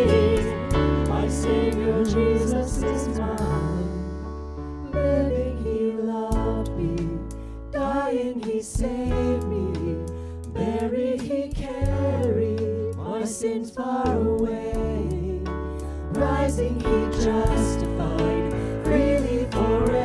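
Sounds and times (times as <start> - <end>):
sustained bass notes: 0.0 - 13.2, 14.0 - 20.0.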